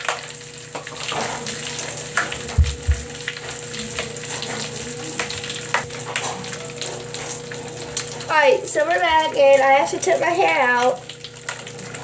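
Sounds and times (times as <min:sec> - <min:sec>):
bath crackles popping in water: 0:00.0 - 0:12.0.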